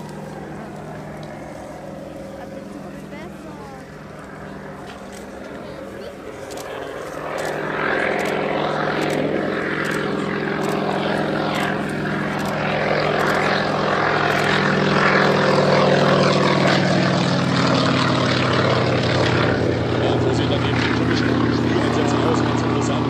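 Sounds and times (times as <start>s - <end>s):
propeller aircraft flying past: 0.0s - 23.0s.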